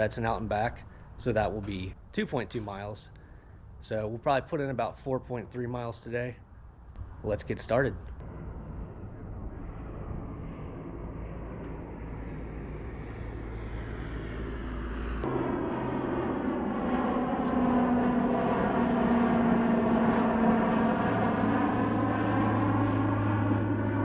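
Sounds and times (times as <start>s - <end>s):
propeller airplane engine drone: 0.0s - 24.0s.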